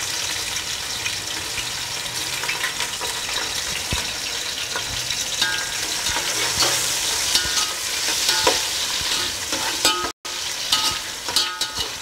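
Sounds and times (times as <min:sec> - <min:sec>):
onions sizzling in hot oil: 0:00.0 - 0:12.0
metal spoon scraping a pot: 0:02.2 - 0:12.0.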